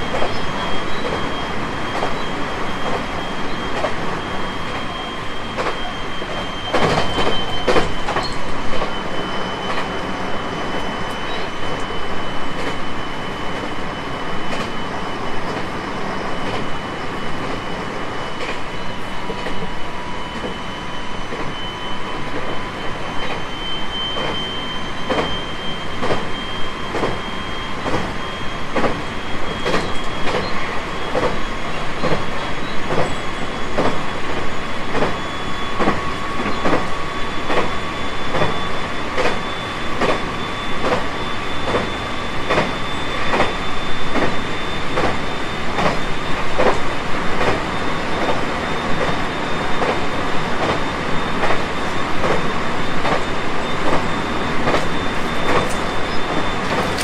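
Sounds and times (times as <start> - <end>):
train wheels clickety-clack: 0.0 - 10.0, 10.7 - 13.8, 14.4 - 20.6, 21.2 - 21.6, 22.3 - 57.0
train running rumble: 0.0 - 57.0.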